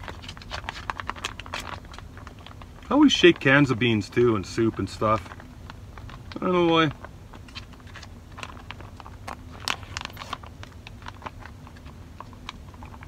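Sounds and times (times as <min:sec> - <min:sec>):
foil pouch crinkling: 0:00.0 - 0:13.0
foil pouch ripping: 0:00.0 - 0:13.0.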